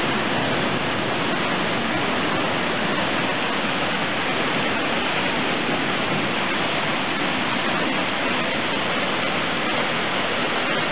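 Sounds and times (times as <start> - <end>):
floodwater rushing: 0.0 - 10.9.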